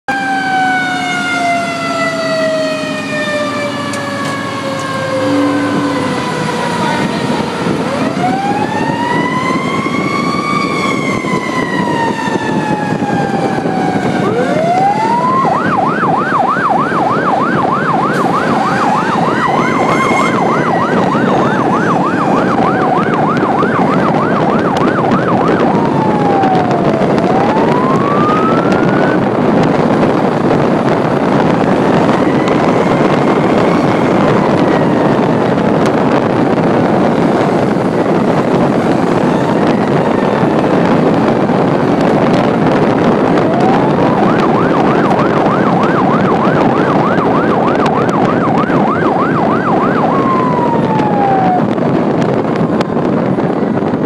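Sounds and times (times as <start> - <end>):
engine and road noise: 0.1 - 54.0
fire truck siren: 0.1 - 54.0.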